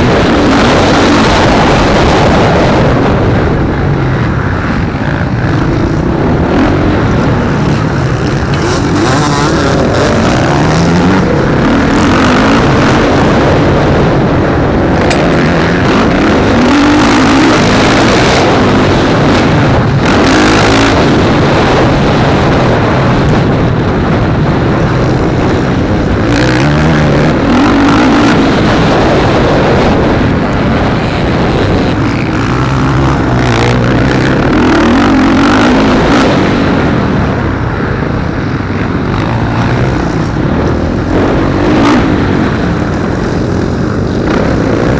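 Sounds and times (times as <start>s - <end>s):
motocross bikes revving: 0.0s - 44.9s.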